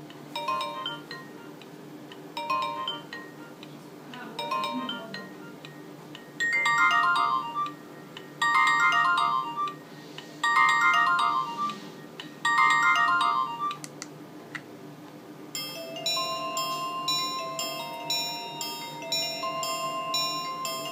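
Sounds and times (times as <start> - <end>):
phone ringtone melody: 0.3 - 1.6, 2.3 - 3.6, 4.4 - 13.8, 15.6 - 20.9.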